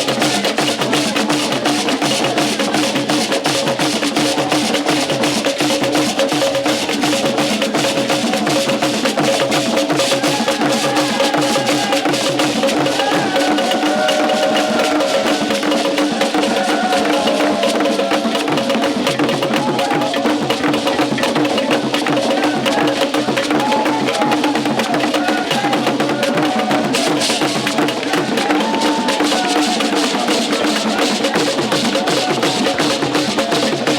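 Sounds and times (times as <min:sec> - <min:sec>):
drum and percussion ensemble: 0:00.0 - 0:33.9.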